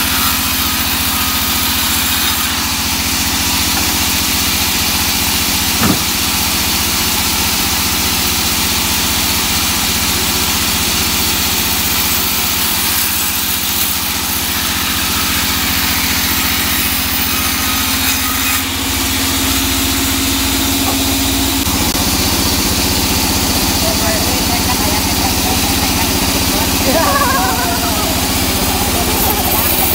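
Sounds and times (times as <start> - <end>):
band saw cutting wood: 0.0 - 29.9.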